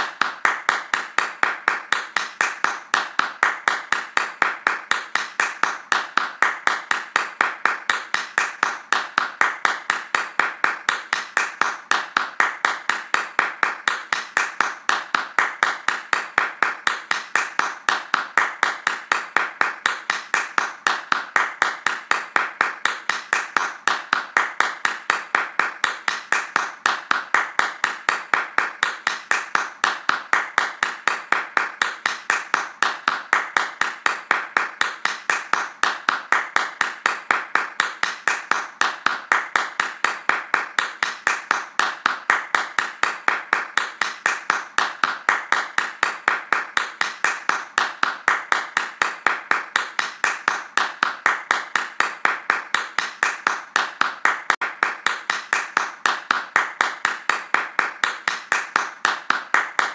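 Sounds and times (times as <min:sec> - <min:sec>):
hands clapping fast: 0:00.0 - 0:59.9.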